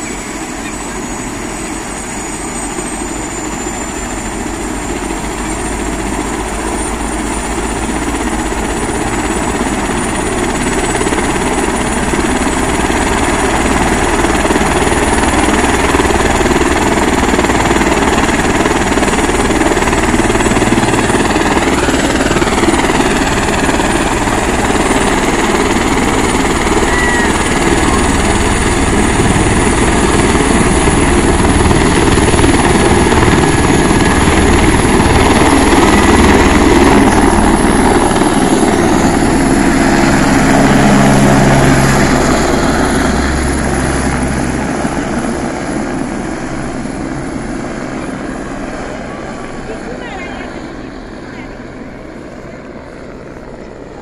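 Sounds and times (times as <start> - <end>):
helicopter rotor noise: 0.0 - 54.0
turbine whine: 0.0 - 54.0.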